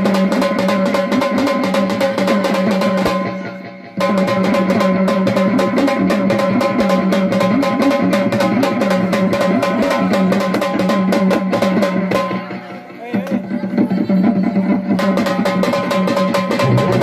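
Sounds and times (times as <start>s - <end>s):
dance music with fast drumming: 0.0s - 17.0s.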